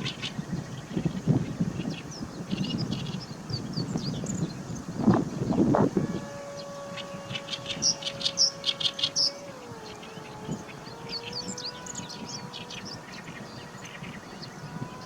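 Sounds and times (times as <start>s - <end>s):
warbler chattering song: 0.0s - 15.0s.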